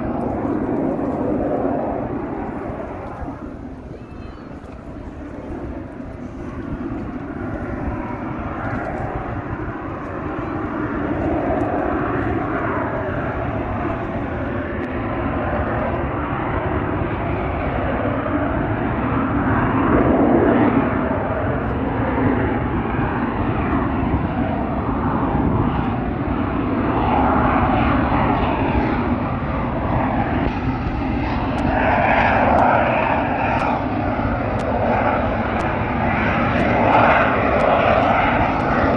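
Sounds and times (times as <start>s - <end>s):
jet aircraft roar: 0.0s - 38.9s.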